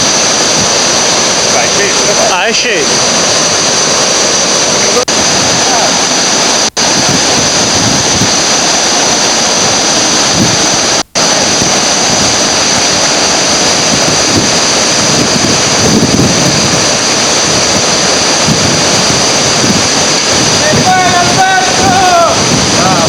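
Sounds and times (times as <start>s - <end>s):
river rapids rushing: 0.0s - 23.0s.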